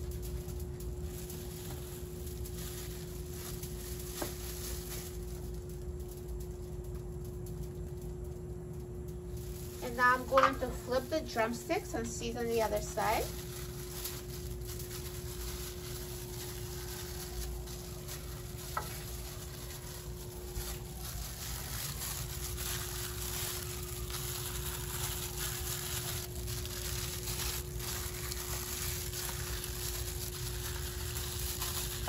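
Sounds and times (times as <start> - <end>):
low even hum: 0.0 - 32.0.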